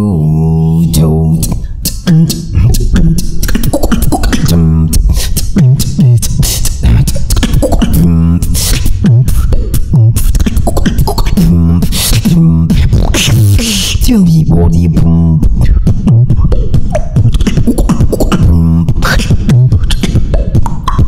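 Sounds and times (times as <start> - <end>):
beatboxing into microphone: 0.0 - 21.0
heavy bass: 0.0 - 21.0
warbling voiced tones: 0.5 - 21.0.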